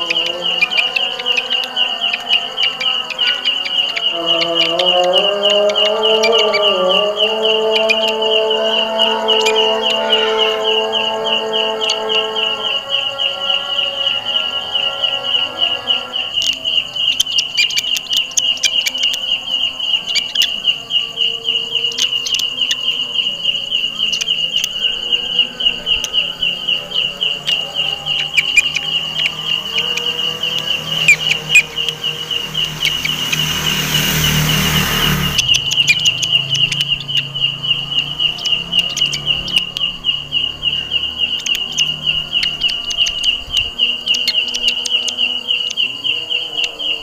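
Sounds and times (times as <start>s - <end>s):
katydid pulsing chirp: 0.0s - 47.0s.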